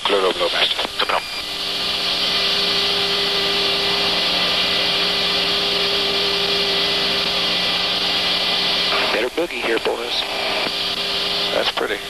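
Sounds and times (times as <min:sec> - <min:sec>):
aircraft engine hum: 0:00.0 - 0:12.0
intercom hiss: 0:00.0 - 0:12.0.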